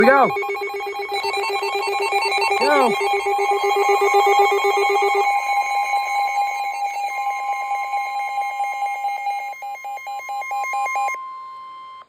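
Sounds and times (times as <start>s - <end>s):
fast repeating beeps: 0.0s - 11.2s
loud steady electronic tones: 0.0s - 11.2s.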